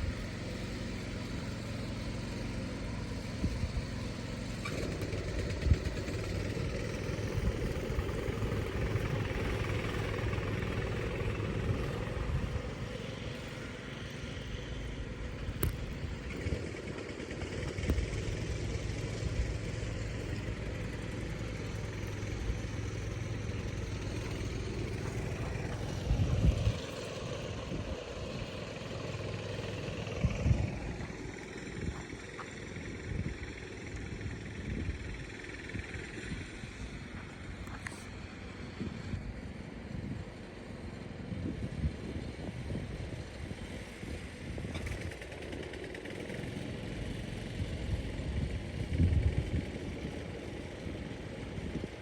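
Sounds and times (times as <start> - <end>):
low engine-like hum: 0.0 - 52.0.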